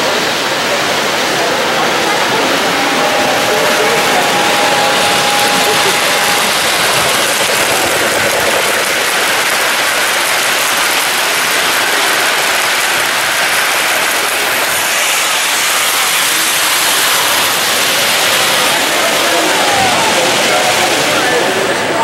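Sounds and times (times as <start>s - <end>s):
model train rattling on track: 0.0s - 22.0s.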